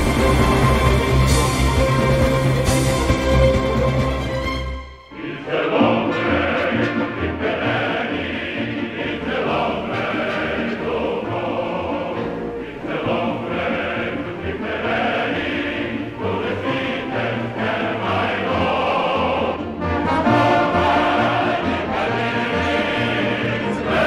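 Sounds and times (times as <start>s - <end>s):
choir singing sustained chords: 0.0s - 24.0s
orchestral accompaniment: 0.0s - 24.0s.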